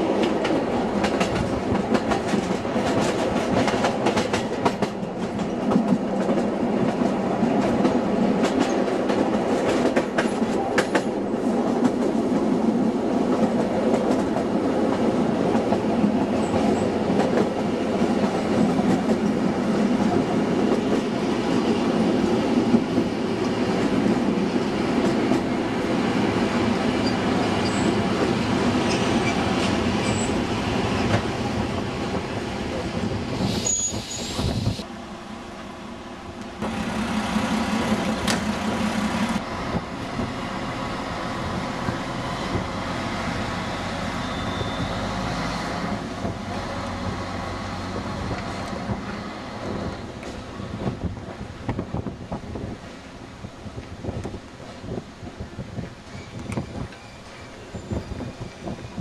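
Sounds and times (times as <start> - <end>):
train engine and wheels droning: 0.0 - 59.0.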